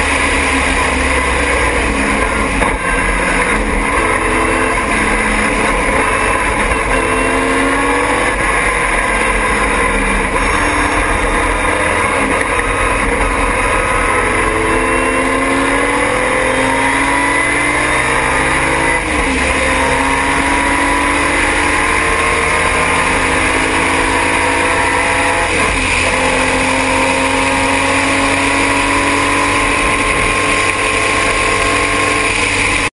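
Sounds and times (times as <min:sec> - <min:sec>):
race car engine running hard: 0:00.0 - 0:32.9.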